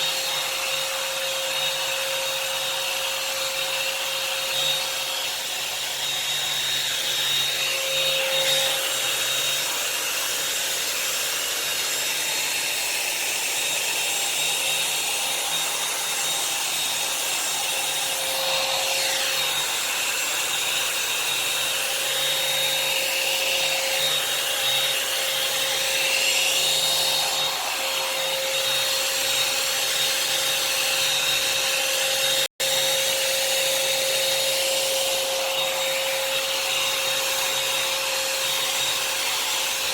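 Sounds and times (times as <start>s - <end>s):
hot-air dryer brush whining: 0.0s - 39.9s.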